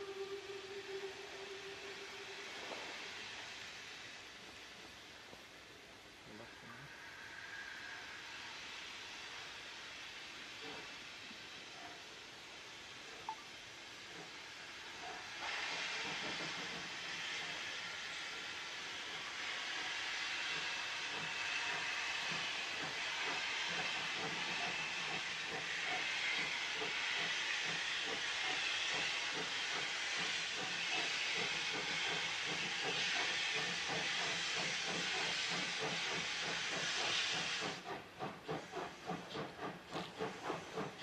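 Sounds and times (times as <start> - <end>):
steam hissing: 0.0 - 41.0
steam locomotive exhaust chuffs: 0.0 - 41.0.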